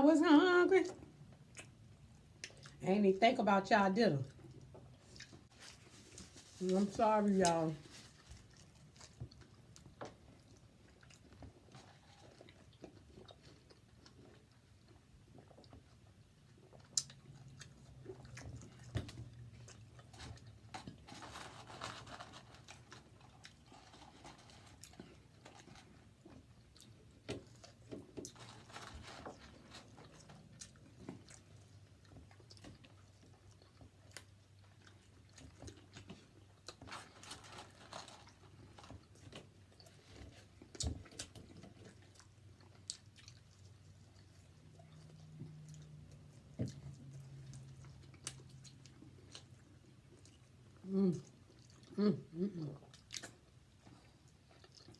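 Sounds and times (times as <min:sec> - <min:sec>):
faint low hum: 0:00.0 - 0:54.9
person chewing food: 0:01.0 - 0:02.8, 0:04.3 - 0:06.6, 0:08.0 - 0:54.9.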